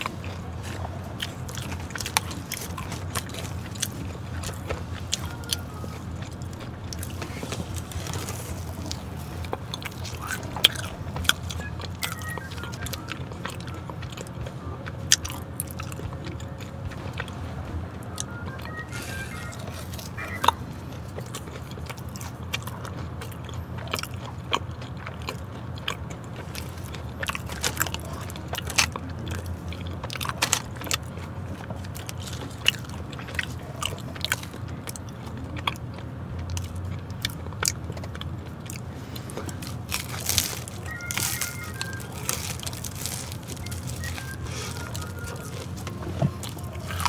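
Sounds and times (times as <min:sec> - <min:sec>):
crunchy bites and chewing: 0:00.0 - 0:17.3, 0:18.2 - 0:47.0
low steady hum: 0:00.0 - 0:47.0.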